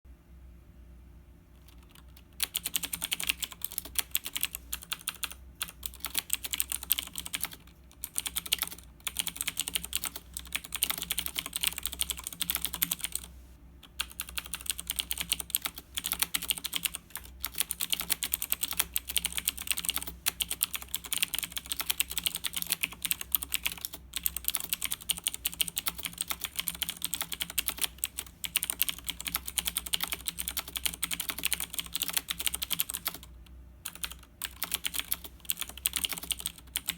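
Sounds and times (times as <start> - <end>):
mechanical keyboard typing: 1.6 - 36.9.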